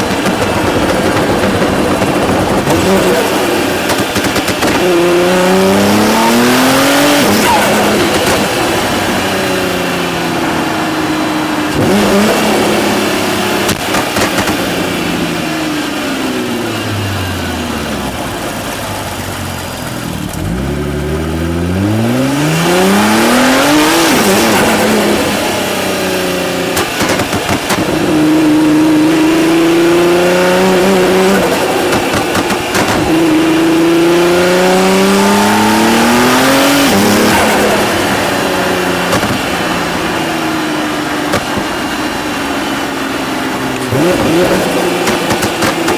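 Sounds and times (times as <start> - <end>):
car engine revving: 0.0 - 45.9
quick gear change: 0.0 - 45.9.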